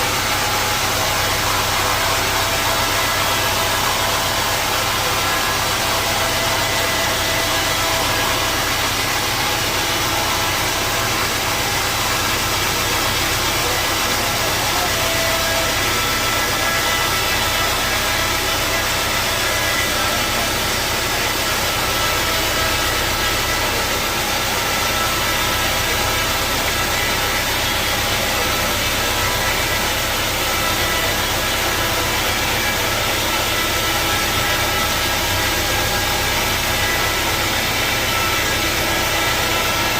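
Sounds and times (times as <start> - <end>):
sawmill machinery hum: 0.0 - 39.9.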